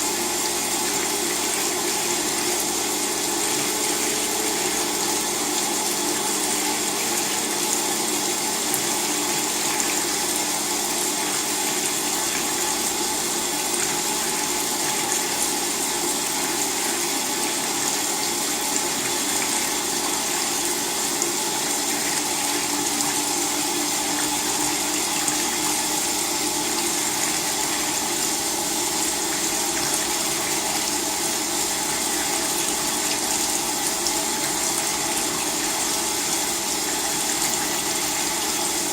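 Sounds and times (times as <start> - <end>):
water rushing through washing machine: 0.0 - 38.9.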